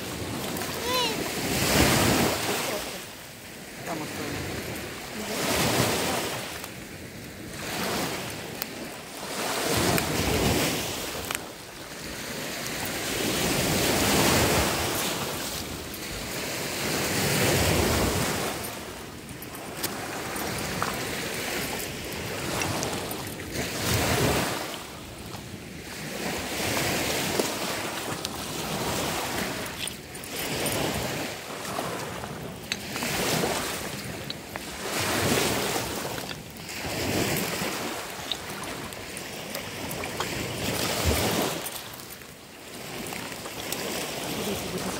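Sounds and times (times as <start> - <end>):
small waves breaking on beach: 0.0 - 44.9.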